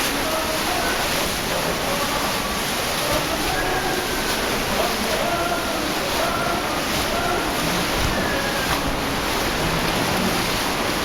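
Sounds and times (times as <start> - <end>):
rushing water roar: 0.0 - 11.0.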